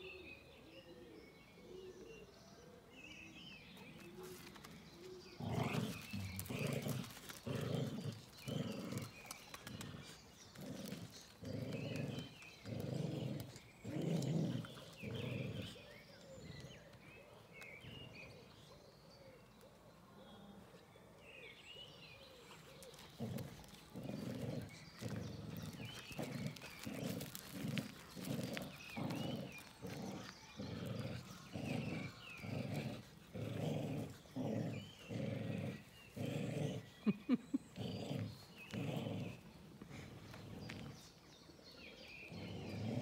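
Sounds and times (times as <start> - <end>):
dog growling in play: 3.8 - 18.8, 21.2 - 43.0.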